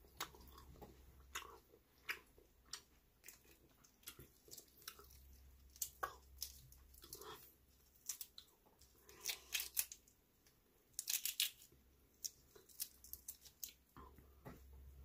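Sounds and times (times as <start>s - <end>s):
person chewing and crunching: 0.0s - 10.2s, 10.9s - 14.2s.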